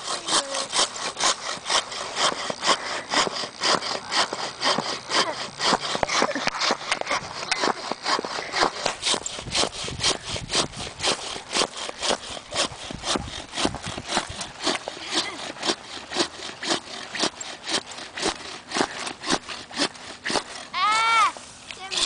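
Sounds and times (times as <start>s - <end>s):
hand saw cutting wood: 0.0s - 22.0s.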